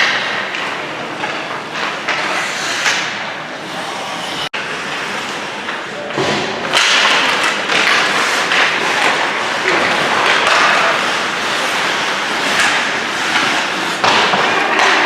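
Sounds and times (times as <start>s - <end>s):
hockey sticks and puck knocks: 0.0s - 3.3s, 4.9s - 15.0s.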